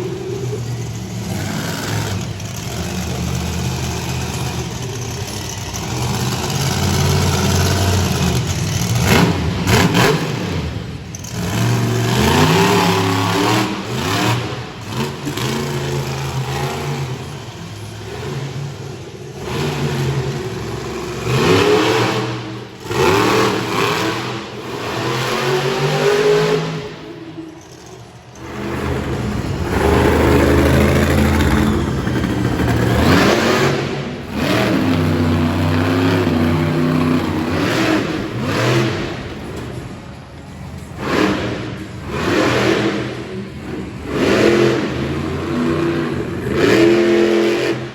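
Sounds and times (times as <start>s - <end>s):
truck engine revving: 0.0s - 47.9s.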